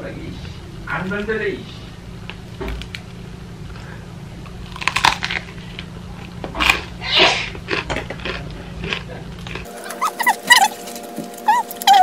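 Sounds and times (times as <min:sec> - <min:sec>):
steady low hum: 0:00.0 - 0:12.0
crunchy chewing of bread: 0:02.2 - 0:12.0.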